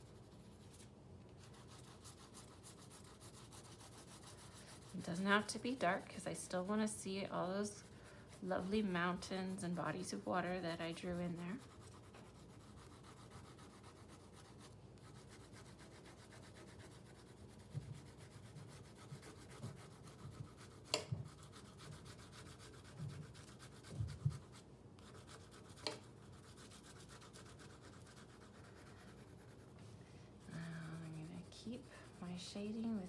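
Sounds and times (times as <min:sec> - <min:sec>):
colored pencil rubbing on paper: 0:00.0 - 0:00.8, 0:01.4 - 0:33.0.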